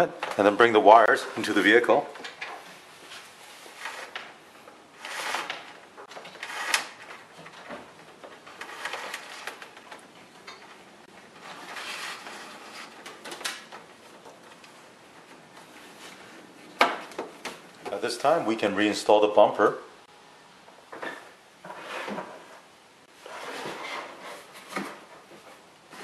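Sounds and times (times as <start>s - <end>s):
cables rustling and scraping: 0.0s - 18.5s, 20.9s - 26.0s.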